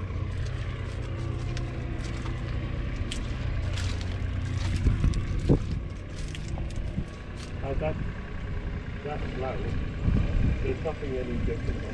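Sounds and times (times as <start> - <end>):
tractor diesel engine running: 0.0 - 11.9.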